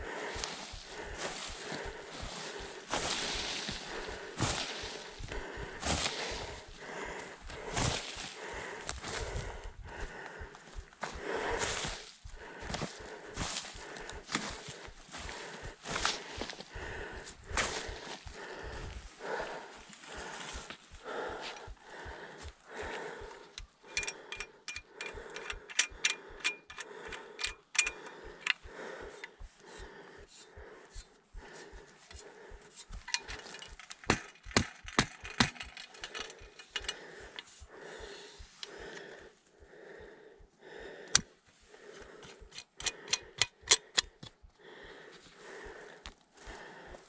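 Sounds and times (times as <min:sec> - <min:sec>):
gear clicking and rattling: 0:00.0 - 0:38.9, 0:42.0 - 0:44.4
person breathing hard: 0:00.0 - 0:47.0.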